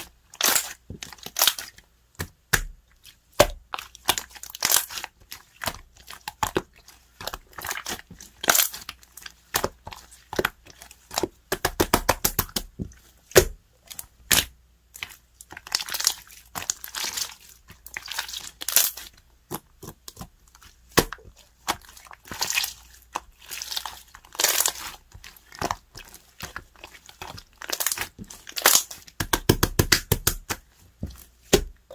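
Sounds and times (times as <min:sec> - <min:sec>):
slime squished by hand: 0:00.4 - 0:31.9.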